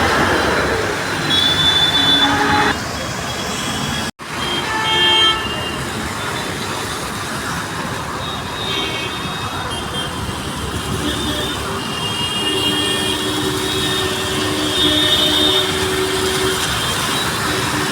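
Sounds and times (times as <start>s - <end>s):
vehicle engines: 0.0s - 4.4s, 5.6s - 17.9s
tyres on wet road: 0.0s - 17.9s.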